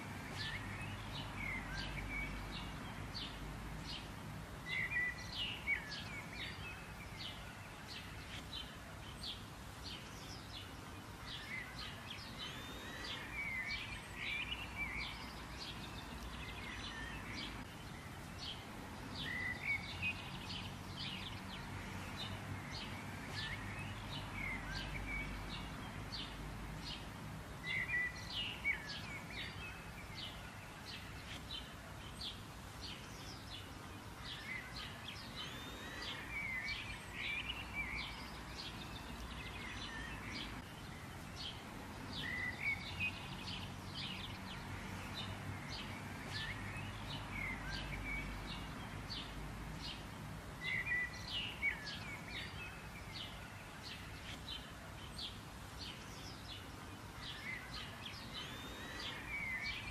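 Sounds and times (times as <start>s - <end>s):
low outdoor background hum: 0.0s - 59.9s
small birds chirping: 0.0s - 59.9s.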